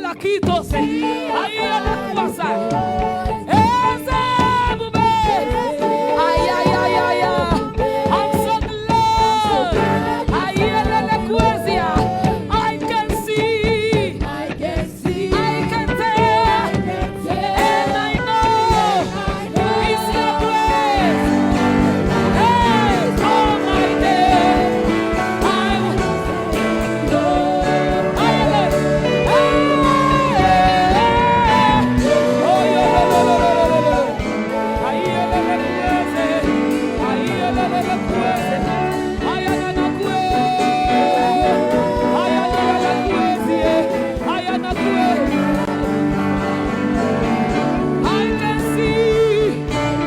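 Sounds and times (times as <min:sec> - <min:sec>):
keyboard and band accompaniment: 0:00.0 - 0:50.0
person singing: 0:00.0 - 0:50.0.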